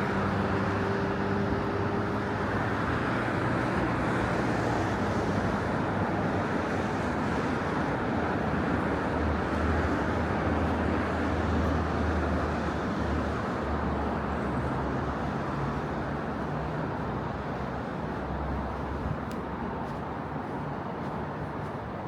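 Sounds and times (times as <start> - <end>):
road traffic rush: 0.0 - 22.0.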